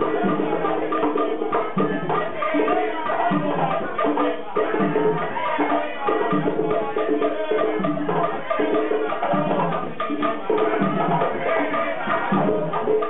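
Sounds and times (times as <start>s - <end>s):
conga drums playing: 0.0s - 13.0s.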